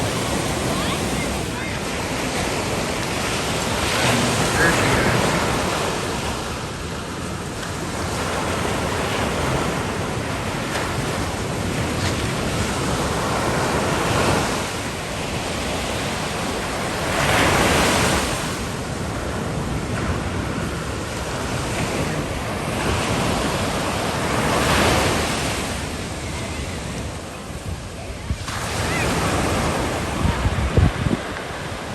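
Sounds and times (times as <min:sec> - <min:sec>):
ocean waves breaking: 0:00.0 - 0:31.9
wind buffeting microphone: 0:00.0 - 0:31.9.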